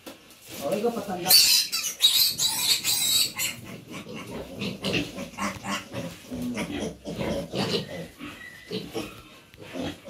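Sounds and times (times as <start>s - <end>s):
pigs grunting and squealing: 1.2s - 10.0s.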